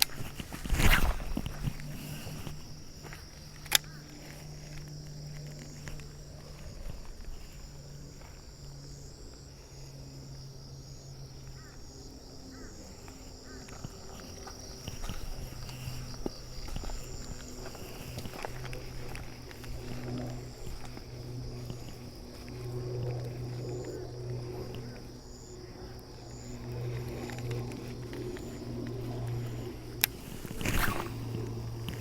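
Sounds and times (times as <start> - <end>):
insects chirring: 0.0 - 32.0
low hum: 0.0 - 32.0.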